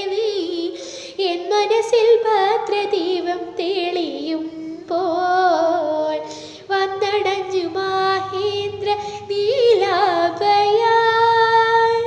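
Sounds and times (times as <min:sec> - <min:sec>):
woman singing devotional song: 0:00.0 - 0:12.0.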